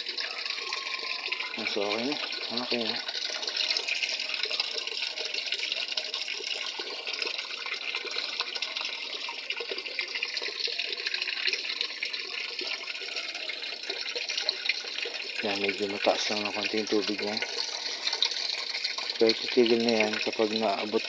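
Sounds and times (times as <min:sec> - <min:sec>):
water running into washing machine: 0:00.0 - 0:21.0.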